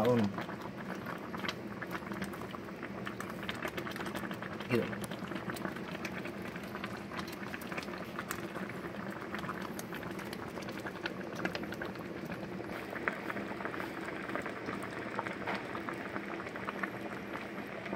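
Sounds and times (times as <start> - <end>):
soup boiling with bubbles popping: 0.0 - 17.9.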